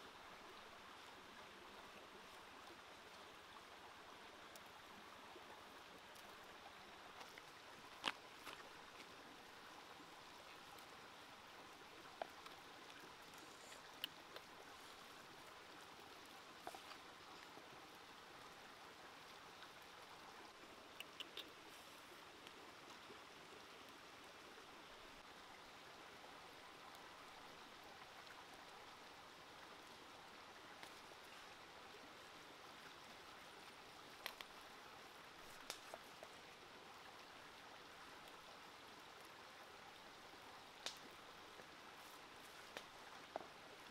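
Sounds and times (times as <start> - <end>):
stream running: 0.0 - 43.9.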